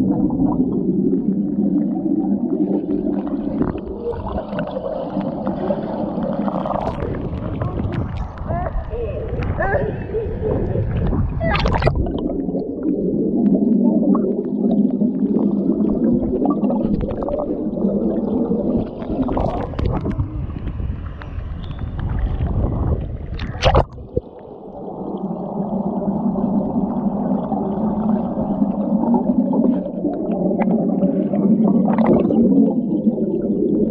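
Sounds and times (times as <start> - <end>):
muffled underwater bubbling: 0.0 - 33.9
water moving underwater: 0.0 - 33.9.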